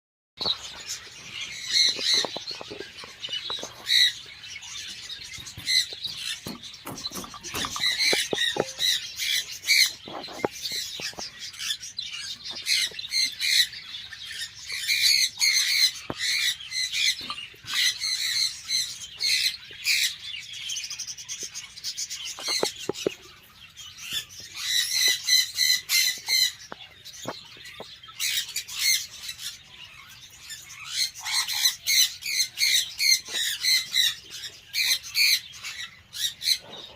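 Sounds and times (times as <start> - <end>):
birds calling: 0.4 - 36.9.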